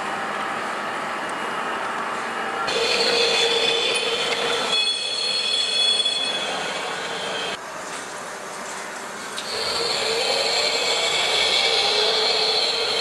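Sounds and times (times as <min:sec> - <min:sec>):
model train running on track: 0:00.0 - 0:07.6, 0:08.3 - 0:13.0
high whining tones: 0:00.1 - 0:07.6, 0:09.4 - 0:13.0.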